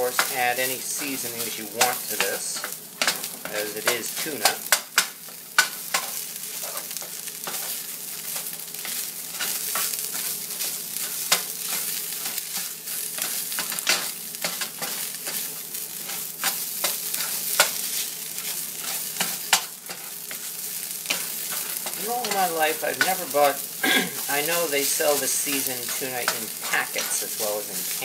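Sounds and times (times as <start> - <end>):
tuna sizzling in a skillet: 0.0 - 28.0
utensil scraping iron skillet: 0.0 - 28.0.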